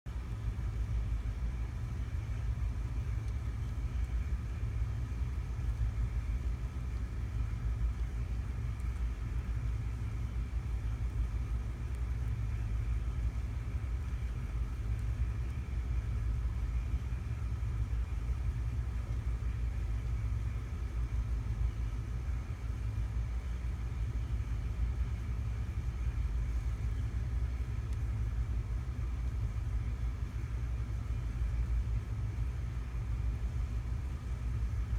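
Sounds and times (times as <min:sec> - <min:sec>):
low background rumble: 0:00.0 - 0:34.9
faint machinery hum: 0:00.1 - 0:34.9.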